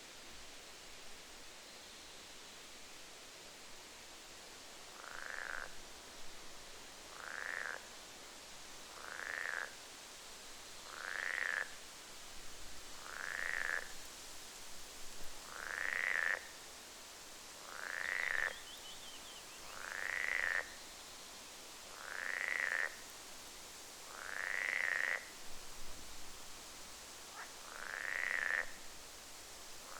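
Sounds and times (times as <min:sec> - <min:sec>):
steady hiss: 0:00.0 - 0:29.9.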